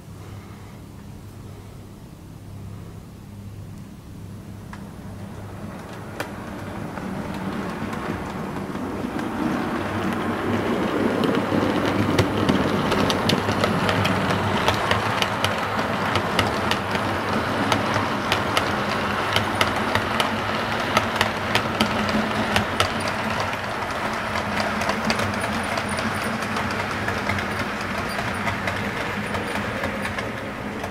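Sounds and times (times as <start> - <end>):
model train running: 0.0 - 30.9
wheels clicking over rail joints: 4.6 - 30.9.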